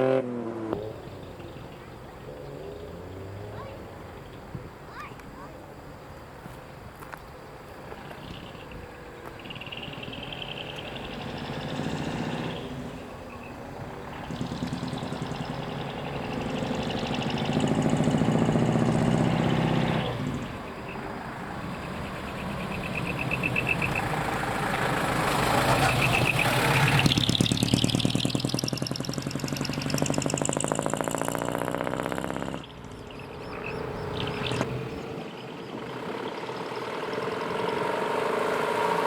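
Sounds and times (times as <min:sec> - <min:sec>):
truck engine revving: 0:00.0 - 0:04.6, 0:08.0 - 0:39.0
heavy diesel trucks driving: 0:00.0 - 0:39.0.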